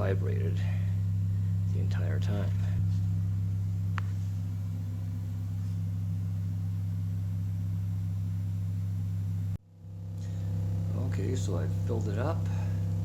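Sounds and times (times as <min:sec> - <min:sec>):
loudspeaker low hum: 0:00.0 - 0:13.0.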